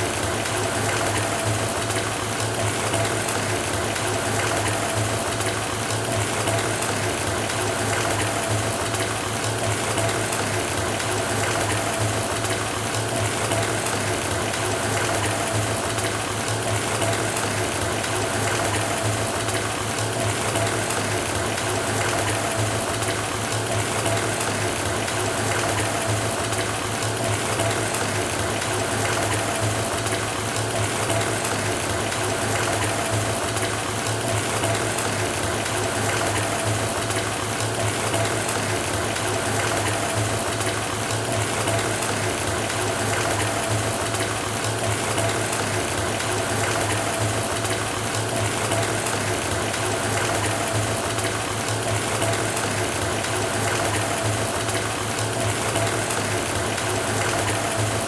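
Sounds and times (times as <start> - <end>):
water running from tap: 0.0 - 58.0.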